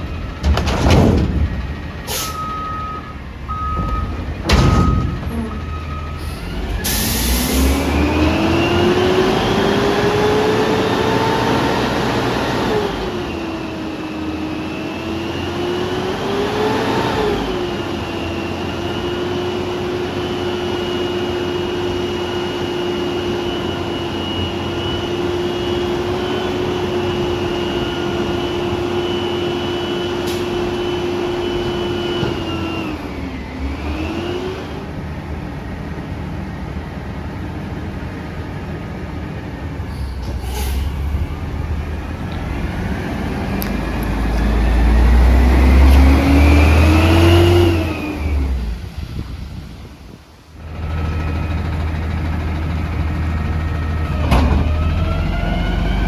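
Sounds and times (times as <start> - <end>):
garbage truck engine revving: 0.0 - 49.3, 50.6 - 56.0.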